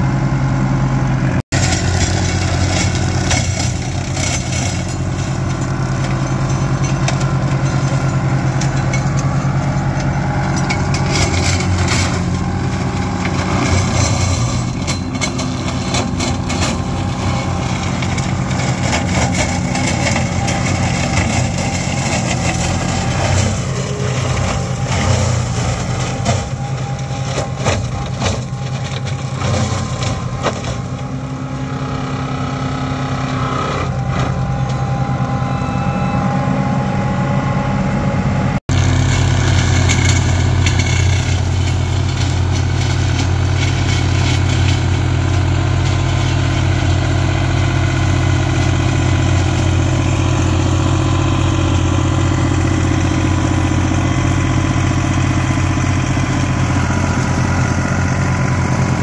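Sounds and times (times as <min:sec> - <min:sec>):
tractor driving flail mulcher: 0:00.0 - 0:59.0.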